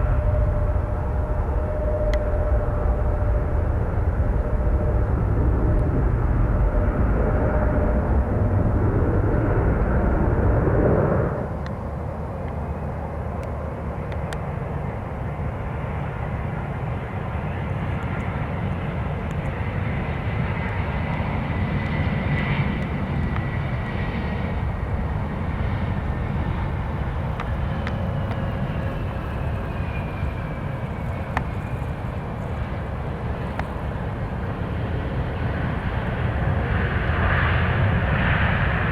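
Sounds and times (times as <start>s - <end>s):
high turbine whine: 0.0s - 38.9s
jet engine roar: 0.0s - 38.9s.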